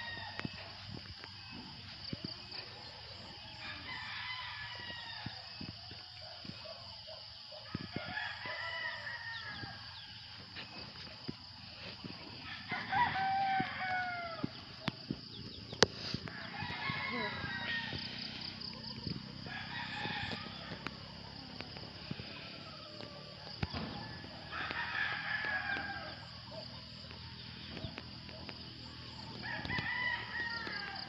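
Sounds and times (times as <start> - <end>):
roosters crowing: 0.0 - 31.0.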